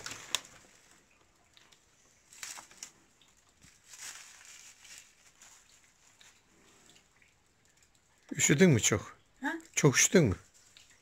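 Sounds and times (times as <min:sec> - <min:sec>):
green onions rustling and crinkling: 0:00.0 - 0:08.7, 0:09.5 - 0:11.0.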